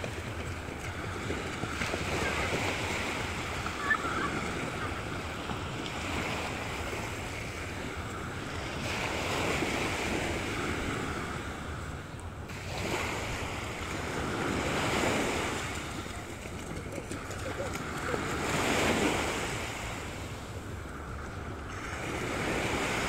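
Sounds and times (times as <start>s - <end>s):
small waves washing onto beach: 0.0s - 23.0s.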